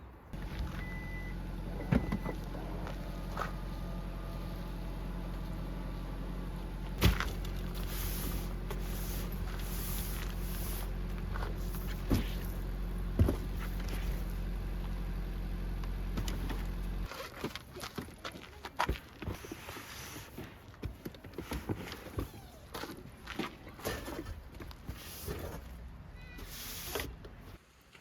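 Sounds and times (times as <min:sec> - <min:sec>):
low mechanical hum: 0:00.1 - 0:27.7.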